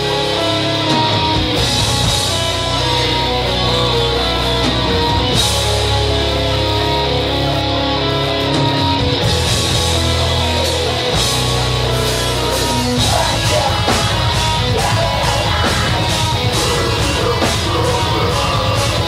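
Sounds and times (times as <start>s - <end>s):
distorted guitars: 0.0s - 19.0s
metal band playing live: 0.0s - 19.0s.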